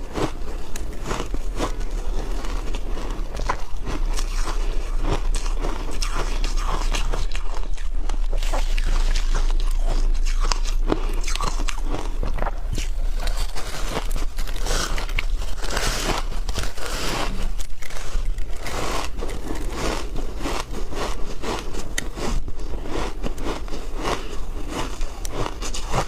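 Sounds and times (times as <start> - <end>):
chewing crunchy ice: 0.0 - 26.0
low hum: 0.0 - 26.0.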